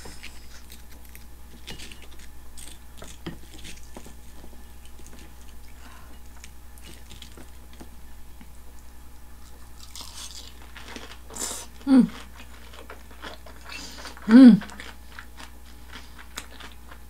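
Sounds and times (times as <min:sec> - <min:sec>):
low hum: 0:00.0 - 0:14.8
person chewing crunchy food: 0:00.0 - 0:17.0.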